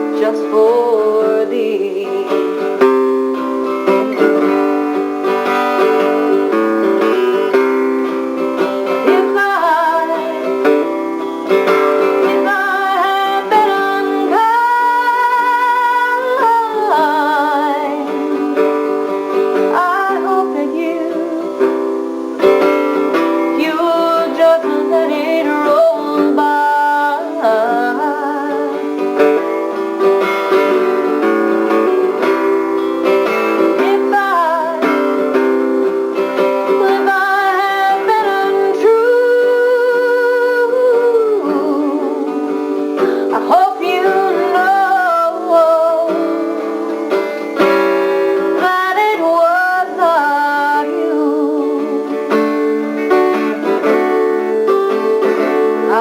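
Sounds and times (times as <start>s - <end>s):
plucked guitar: 0.0s - 56.0s.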